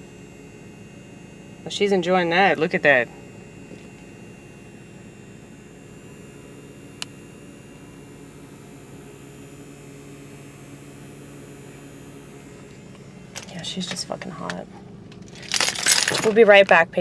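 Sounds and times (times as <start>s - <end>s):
handheld fan buzzing: 0.0s - 17.0s.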